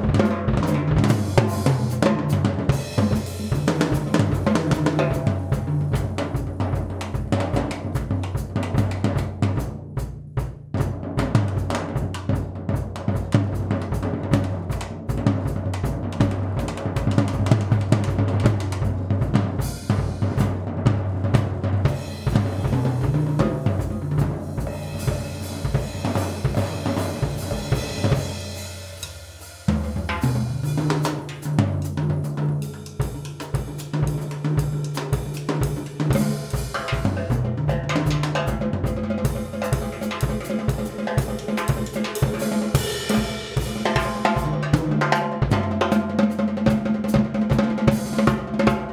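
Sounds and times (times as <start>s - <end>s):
drum kit solo: 0.0s - 48.9s.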